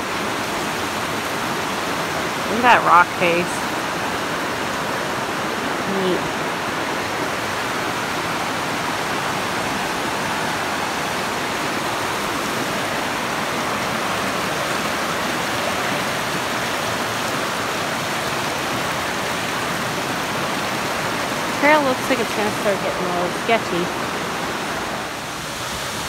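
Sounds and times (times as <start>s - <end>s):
creek rushing over rocks: 0.0s - 26.0s.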